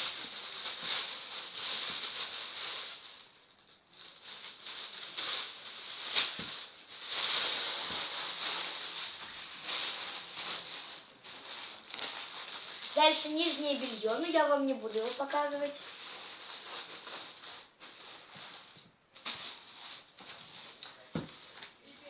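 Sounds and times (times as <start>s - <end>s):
rustling and handling noise: 0.0s - 22.0s.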